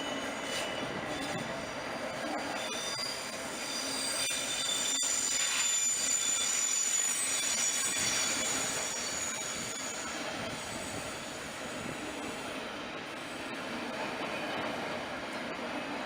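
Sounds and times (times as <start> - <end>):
train wheels squealing on rails: 0.0 - 16.0.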